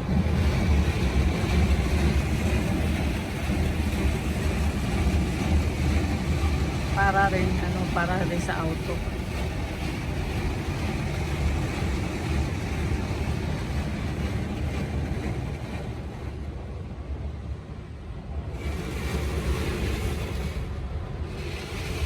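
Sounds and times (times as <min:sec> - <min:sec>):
truck wash low rumble: 0:00.0 - 0:22.0.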